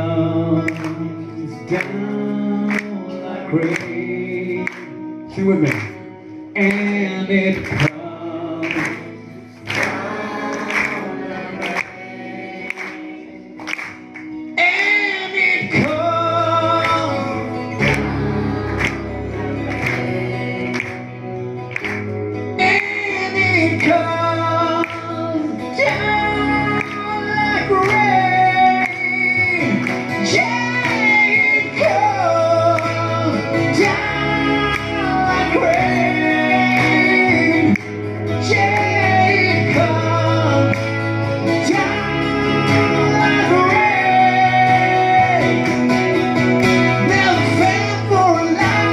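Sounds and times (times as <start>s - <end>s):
acoustic guitars strummed: 0.0s - 48.9s
voices singing: 6.6s - 21.6s, 22.6s - 48.9s.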